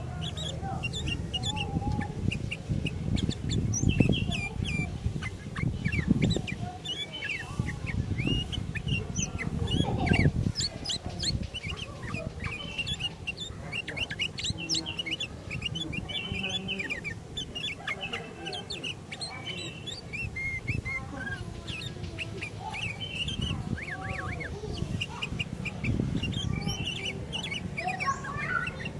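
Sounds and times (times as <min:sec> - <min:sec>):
bulbuls chirping and whistling: 0:00.0 - 0:28.9.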